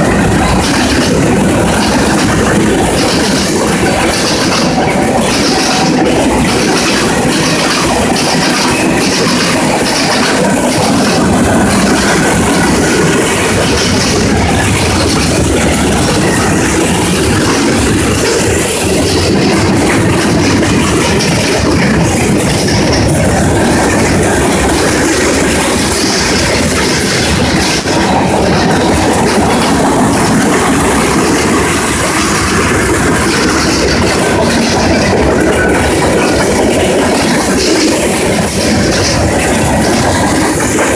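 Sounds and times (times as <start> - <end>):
freight train wheels rumbling: 0.0 - 40.9
wheels clicking: 0.0 - 40.9.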